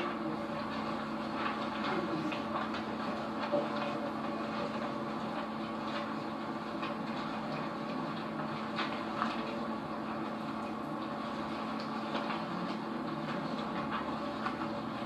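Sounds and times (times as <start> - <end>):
recording hum and hiss: 0.0 - 15.0.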